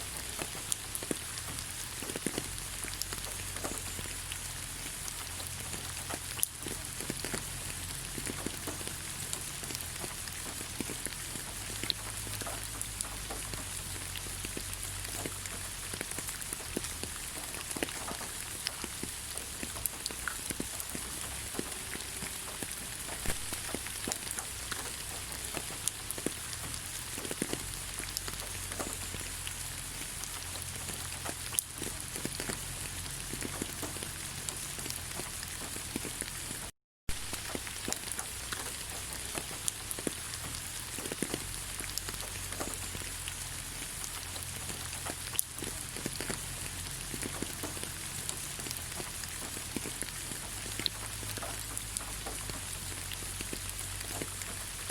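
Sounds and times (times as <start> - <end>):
rain on leaves: 0.0 - 54.9.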